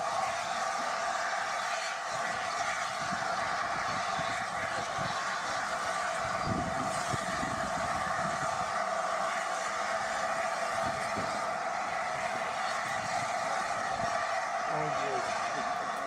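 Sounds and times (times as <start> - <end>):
steam locomotive hissing: 0.0 - 16.0
wind buffeting microphone: 2.1 - 16.0.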